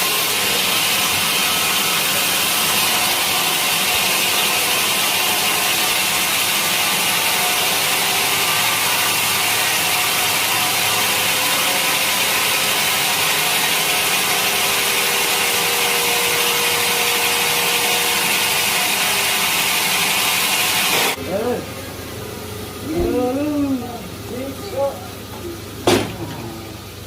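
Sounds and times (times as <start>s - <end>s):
saw cutting through log: 0.0s - 25.0s.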